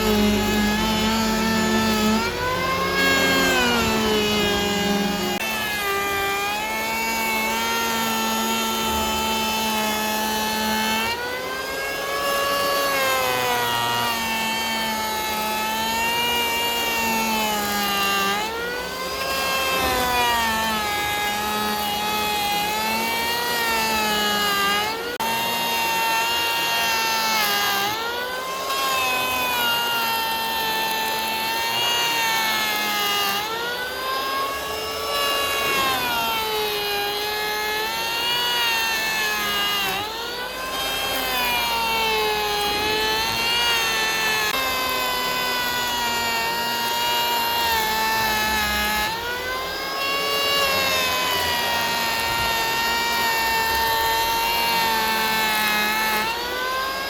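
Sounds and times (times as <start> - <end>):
power saw cutting wood: 0.0 - 57.0.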